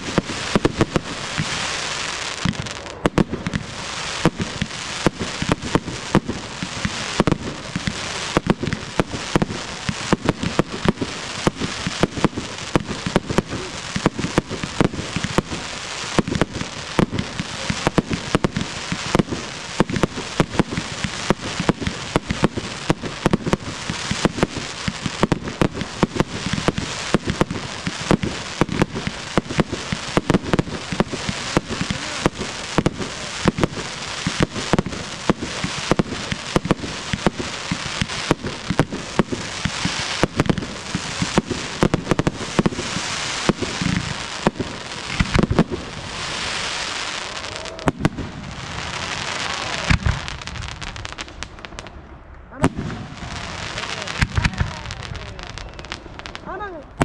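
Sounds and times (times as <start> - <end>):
crackling hiss: 0.0 - 57.0
fireworks bangs: 0.0 - 57.0.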